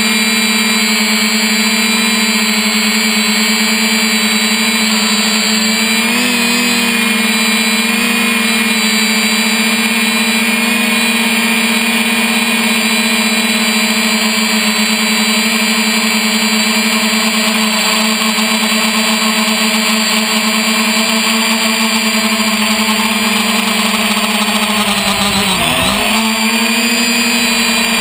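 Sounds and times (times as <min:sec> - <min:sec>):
drone motors humming: 0:00.0 - 0:28.0.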